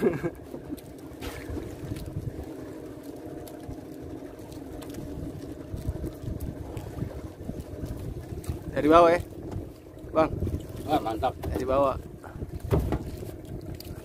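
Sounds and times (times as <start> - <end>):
boat engine humming: 0.0 - 14.0
wind and water rumble: 0.0 - 14.0.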